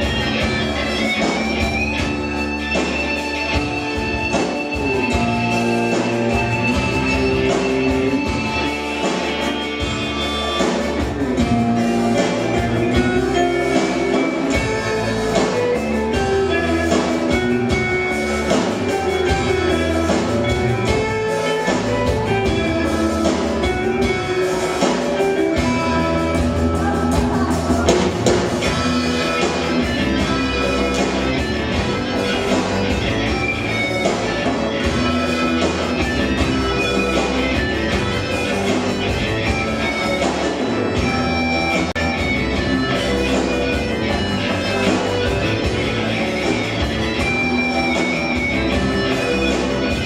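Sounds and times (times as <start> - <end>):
drum kit: 0.0 - 50.0
electric guitar: 0.0 - 50.0.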